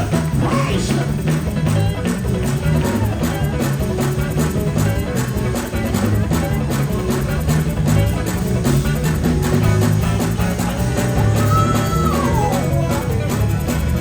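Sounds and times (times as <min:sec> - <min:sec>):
bass: 0:00.0 - 0:14.0
drum kit: 0:00.0 - 0:14.0
electric guitar: 0:00.0 - 0:14.0.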